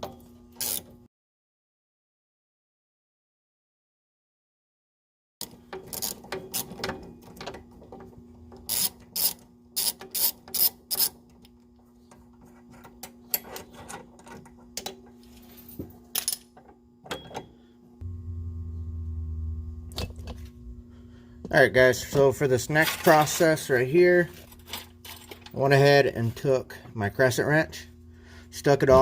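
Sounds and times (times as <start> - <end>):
low steady hum: 5.4 - 29.0.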